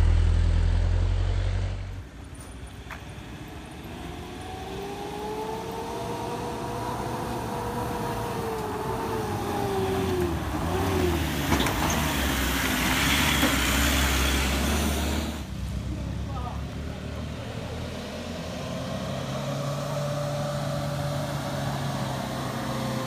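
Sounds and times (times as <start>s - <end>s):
truck engine climbing: 0.0s - 23.0s.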